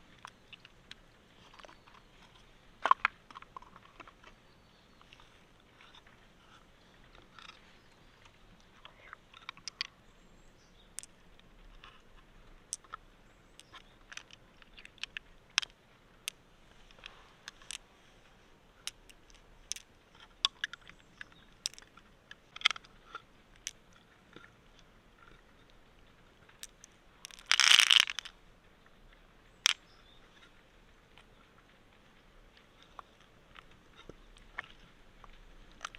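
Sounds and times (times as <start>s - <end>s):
sharp clicks and crunches: 0.0s - 4.4s, 5.0s - 10.0s, 11.0s - 17.9s, 18.8s - 25.8s, 26.4s - 28.4s, 29.6s - 35.9s.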